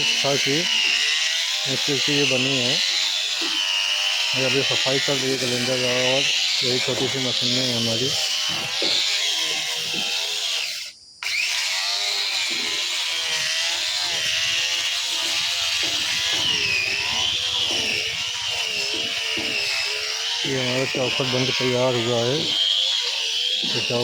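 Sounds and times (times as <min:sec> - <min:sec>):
grinder sanding wood: 0:00.0 - 0:24.0.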